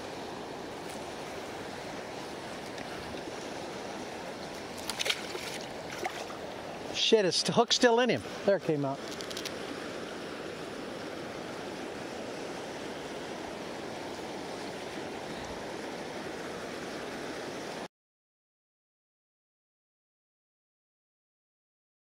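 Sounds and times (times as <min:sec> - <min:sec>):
fast river current rushing: 0:00.0 - 0:17.9.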